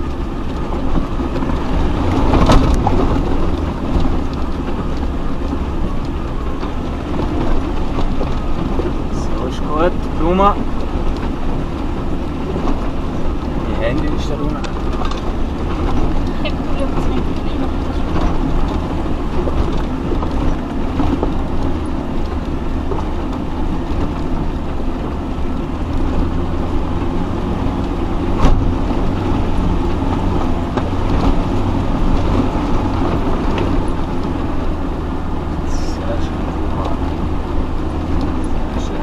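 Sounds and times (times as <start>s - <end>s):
chassis knocks and rattles: 0.0s - 39.0s
vehicle engine at low revs: 0.0s - 39.0s.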